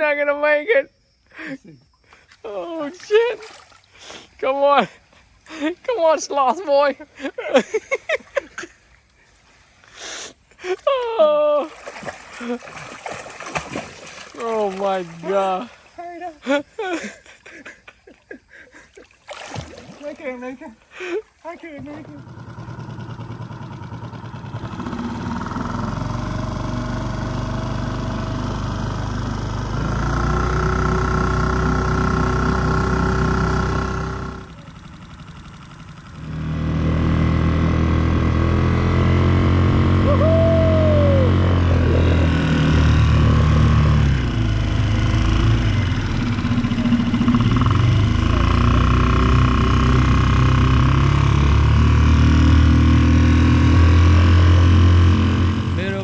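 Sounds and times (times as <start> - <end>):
outboard motor running: 2.0 - 9.8, 10.4 - 56.0.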